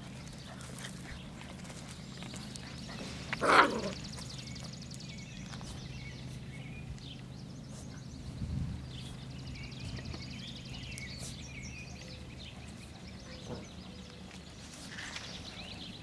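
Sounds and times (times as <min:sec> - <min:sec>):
puppies scuffing on gravel: 0:00.0 - 0:08.3, 0:08.9 - 0:16.0
birds chirping: 0:00.0 - 0:16.0
steady low hum: 0:00.0 - 0:16.0.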